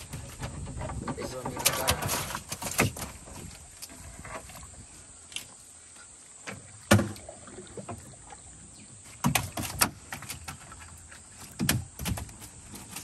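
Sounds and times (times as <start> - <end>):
net being hauled into canoe: 0.0 - 5.8, 6.4 - 13.0.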